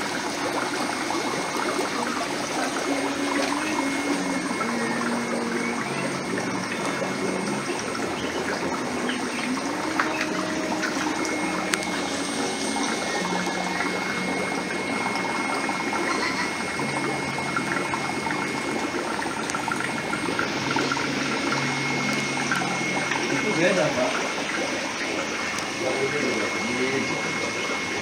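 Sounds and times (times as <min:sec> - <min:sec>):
water trickling in aquarium: 0:00.0 - 0:28.0.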